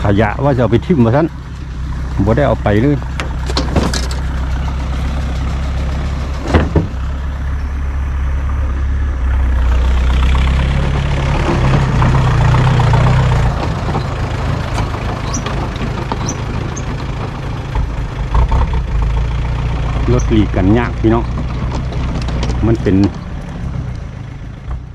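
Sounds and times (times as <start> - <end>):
pickup truck engine running: 0.0 - 24.9
tractor engine passing: 0.0 - 24.9.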